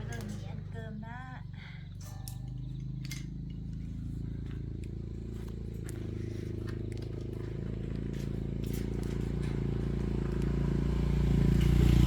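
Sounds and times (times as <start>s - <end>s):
light clicks and clinks: 0.0s - 0.9s, 1.8s - 10.8s
motor running at low pitch: 0.0s - 12.0s.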